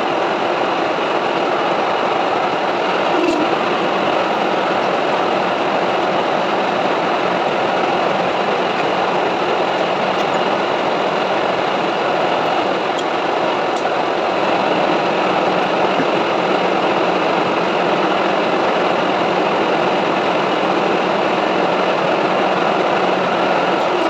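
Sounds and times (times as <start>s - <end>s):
metal lathe cutting steel: 2.6s - 24.0s.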